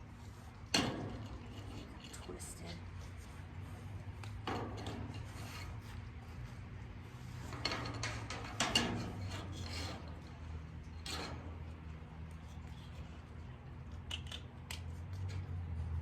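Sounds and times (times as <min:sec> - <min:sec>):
harness rubbing and scraping: 0:00.0 - 0:16.0.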